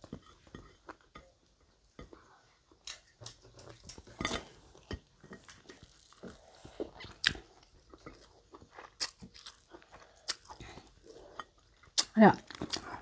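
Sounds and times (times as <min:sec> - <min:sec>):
people chewing food: 0:00.0 - 0:13.0
sharp eating clicks and smacks: 0:02.0 - 0:13.0.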